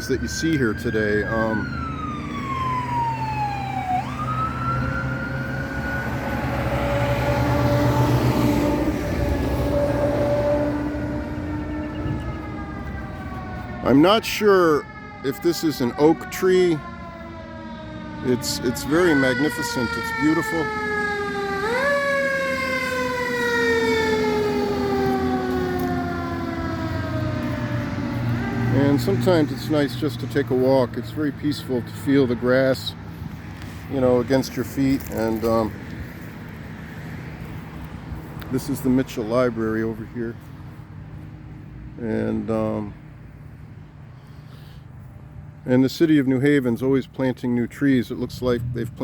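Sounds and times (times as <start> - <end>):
emergency vehicle siren wailing: 0.0 - 43.8.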